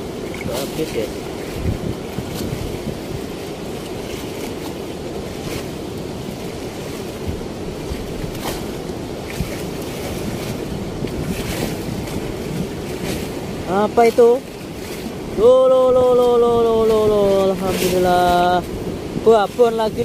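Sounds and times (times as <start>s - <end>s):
river water rushing through sluice: 0.0s - 20.0s
small waves washing on concrete: 0.0s - 20.0s.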